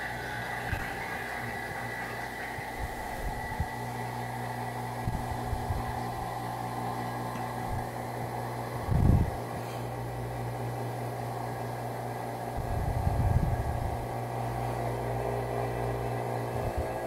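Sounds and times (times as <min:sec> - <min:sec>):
vacuum pump humming: 0:00.0 - 0:17.0.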